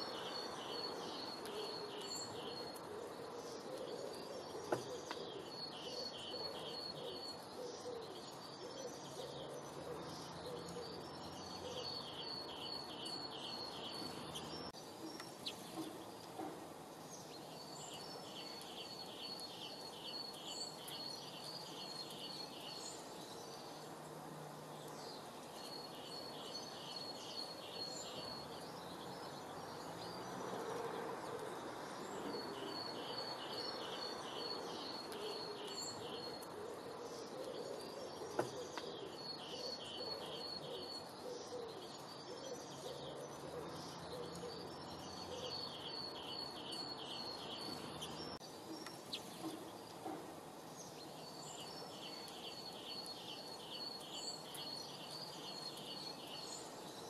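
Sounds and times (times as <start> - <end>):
outdoor background hiss: 0.0 - 57.0
songbird singing: 0.0 - 57.0.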